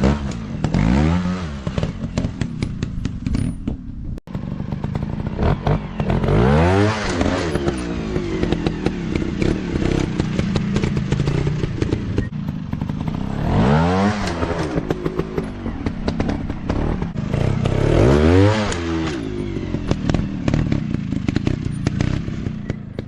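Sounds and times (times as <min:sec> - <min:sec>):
dirt bike engines revving: 0:04.3 - 0:23.0.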